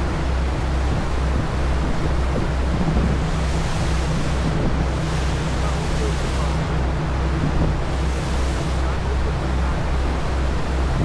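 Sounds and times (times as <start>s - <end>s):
churning wake rushing: 0.0s - 11.0s
ship engines droning: 0.0s - 11.0s
wind on microphone: 0.0s - 11.0s.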